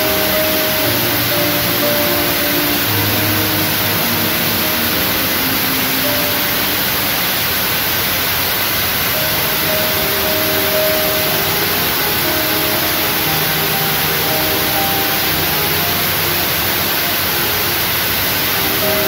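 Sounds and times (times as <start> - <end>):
background music: 0.0 - 7.8, 9.1 - 19.0
loud steady hiss: 0.0 - 19.0.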